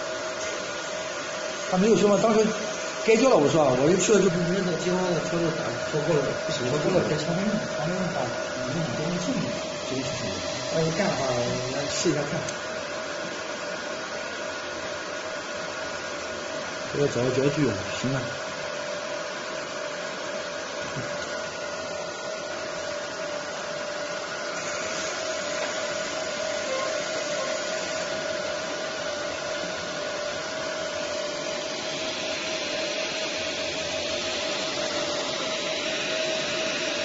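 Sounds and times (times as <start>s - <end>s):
machine fan whirring: 0.0s - 37.0s.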